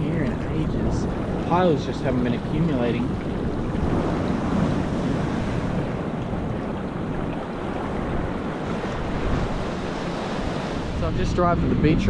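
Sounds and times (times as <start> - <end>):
surf washing: 0.0 - 12.0
wind rumbling on microphone: 0.0 - 12.0.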